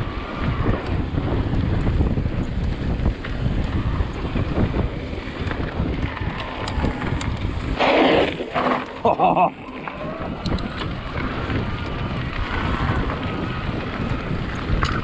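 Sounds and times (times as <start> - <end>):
bike tyres rolling on dirt: 0.0 - 15.0
wind buffeting microphone: 0.0 - 15.0.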